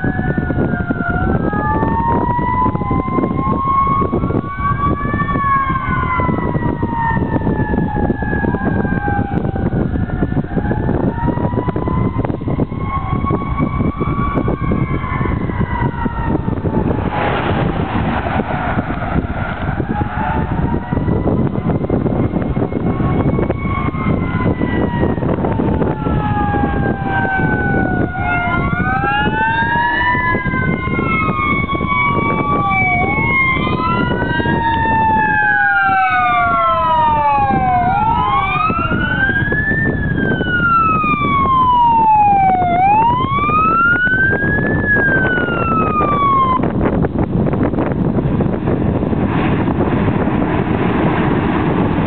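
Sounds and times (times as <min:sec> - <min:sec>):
engine and road rumble: 0:00.0 - 0:52.0
fire engine sirens wailing: 0:00.0 - 0:52.0.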